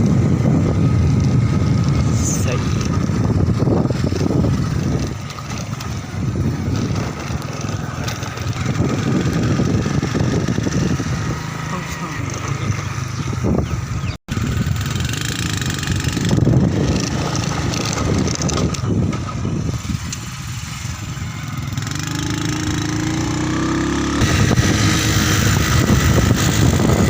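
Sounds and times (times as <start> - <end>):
motorcycle engine: 0.0 - 27.0
road noise: 0.0 - 27.0
wind on microphone: 0.0 - 27.0.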